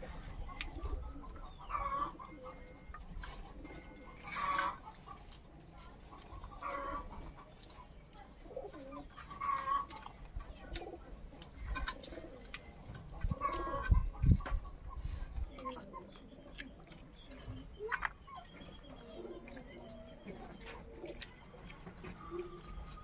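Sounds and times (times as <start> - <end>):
chicken clucking: 0.0 - 23.0.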